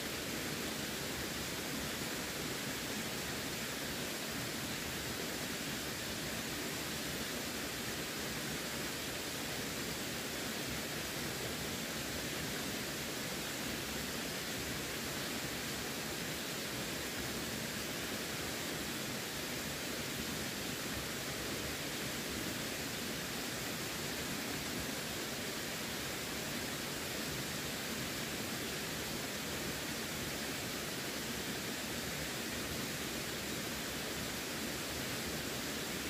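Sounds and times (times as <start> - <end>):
running water hiss: 0.0 - 36.0.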